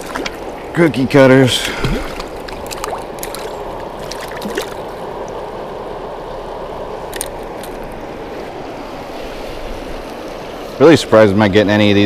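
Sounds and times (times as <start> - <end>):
water rushing from spillway: 0.0 - 12.0.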